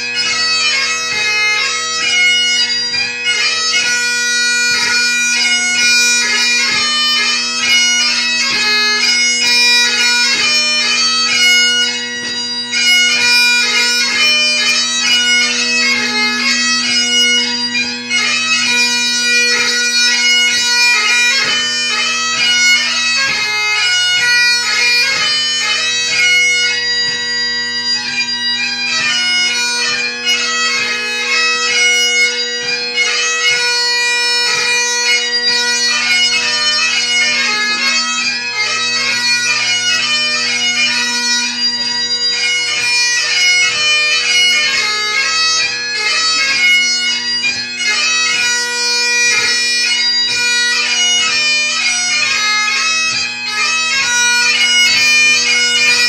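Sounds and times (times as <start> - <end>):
bagpipe chanter melody: 0.0 - 56.0
bagpipe drones humming: 0.0 - 56.0.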